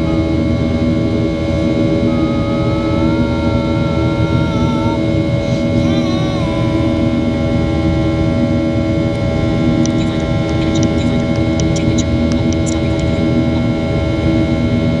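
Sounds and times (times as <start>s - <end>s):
jet cabin engine drone: 0.0s - 15.0s.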